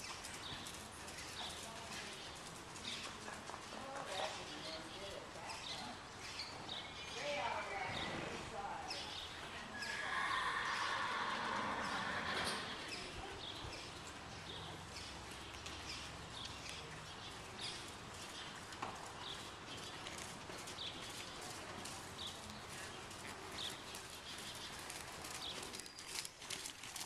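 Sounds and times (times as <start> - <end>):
horse trotting on sand: 0.0 - 9.4, 12.6 - 27.0.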